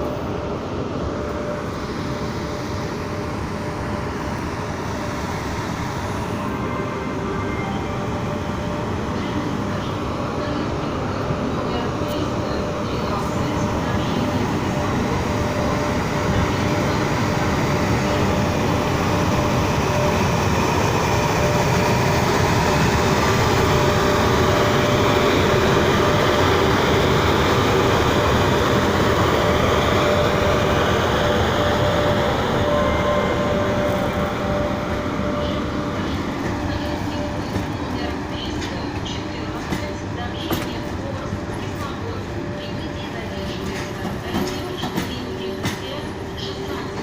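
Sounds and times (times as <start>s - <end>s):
electric locomotive whine: 0.0s - 47.0s
train running gear rumble: 0.0s - 47.0s.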